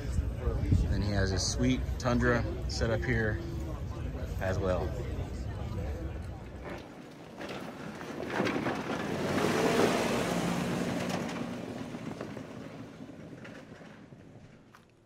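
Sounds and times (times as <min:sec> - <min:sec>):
off-road truck engine: 0:00.0 - 0:15.0.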